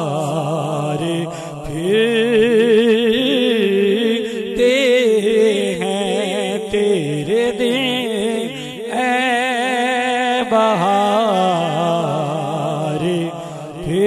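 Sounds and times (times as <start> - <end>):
man chanting into a microphone: 0.0 - 14.0.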